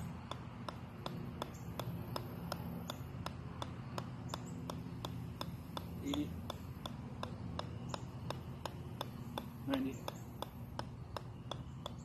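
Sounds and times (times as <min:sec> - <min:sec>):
golf ball bouncing on sledgehammer: 0:00.0 - 0:12.0.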